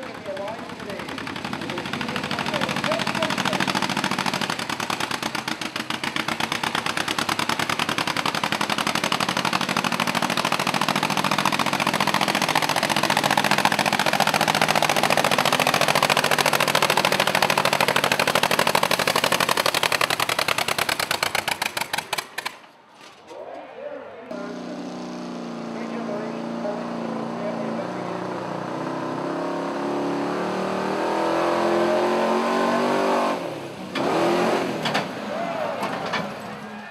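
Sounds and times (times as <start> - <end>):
engine running hard under load: 0.0 - 21.9, 24.3 - 36.6.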